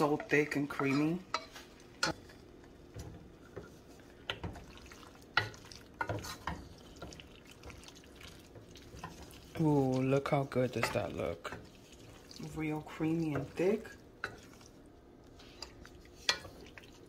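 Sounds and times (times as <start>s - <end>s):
spoon stirring thick sauce: 0.0s - 17.0s.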